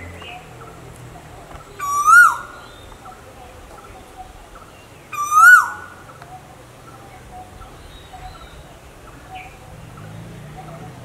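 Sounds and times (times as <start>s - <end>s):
koel calling: 1.6s - 11.0s.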